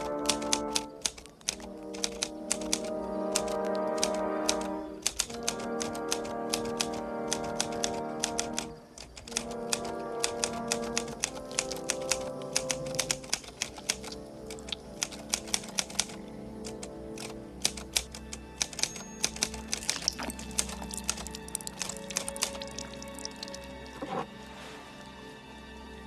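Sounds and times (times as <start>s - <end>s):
typewriter keys clacking: 0.0s - 23.0s
film score music: 0.0s - 26.0s.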